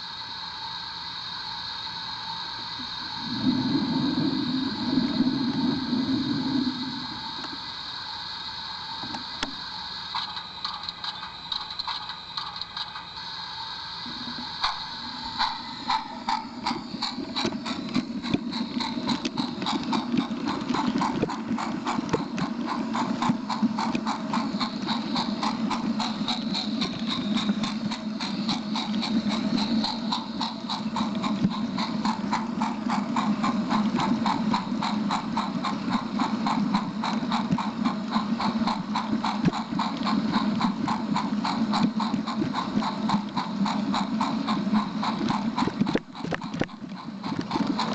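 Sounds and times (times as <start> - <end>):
small train wheels clicking: 0.0 - 47.9
motor hum: 2.8 - 8.1, 14.0 - 47.9.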